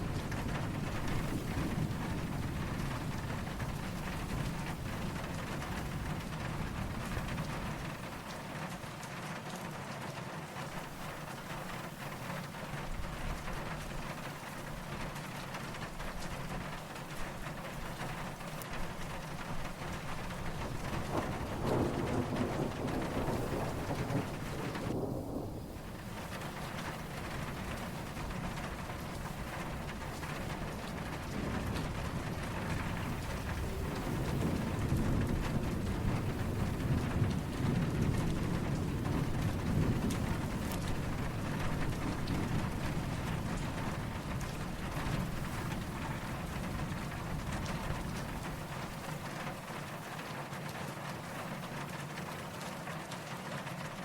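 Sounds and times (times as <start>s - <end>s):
distant thunder rumble: 0.0s - 9.1s, 10.6s - 52.4s
steady rainfall: 0.0s - 54.0s.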